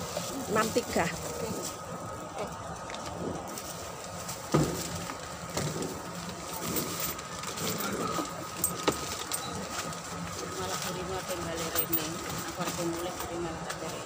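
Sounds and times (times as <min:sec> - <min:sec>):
plastic bags rustling: 0:00.0 - 0:14.0.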